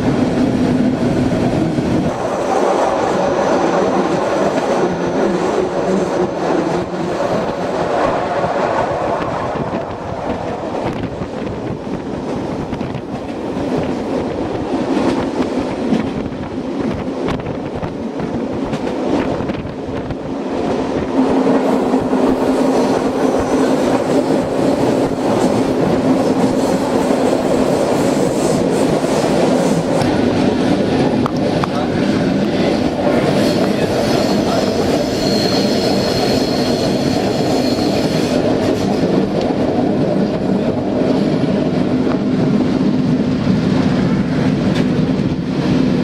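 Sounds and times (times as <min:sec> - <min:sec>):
train hum: 0:00.0 - 0:46.0
train wheel clatter: 0:01.5 - 0:46.0.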